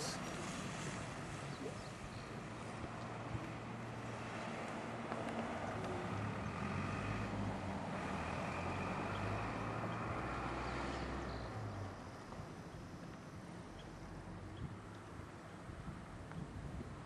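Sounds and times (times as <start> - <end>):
vehicle engine humming: 0.0 - 16.2.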